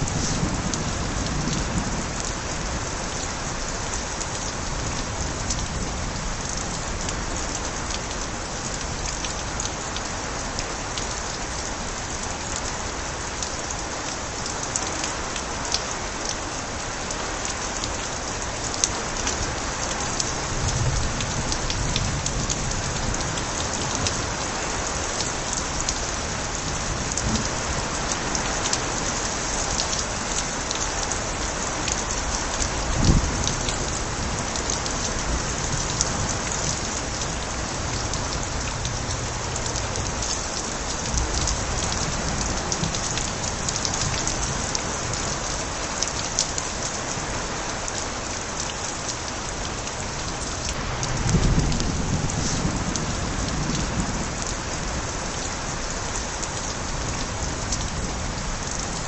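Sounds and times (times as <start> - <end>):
heavy rain: 0.0 - 59.0
water spilling from gutters: 0.0 - 59.0.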